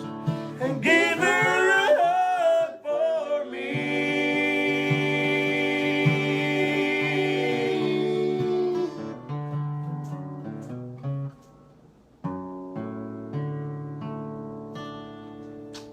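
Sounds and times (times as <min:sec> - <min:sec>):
acoustic guitar playing: 0:00.0 - 0:15.9.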